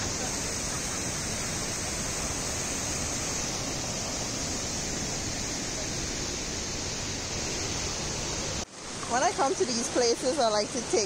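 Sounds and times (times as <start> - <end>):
waterfall rushing over boulders: 0.0 - 11.0.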